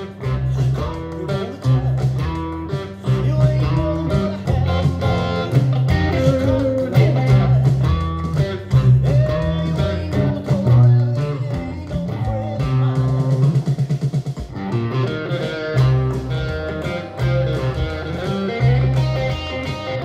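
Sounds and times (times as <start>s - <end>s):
electric guitar blues lead: 0.0s - 20.0s.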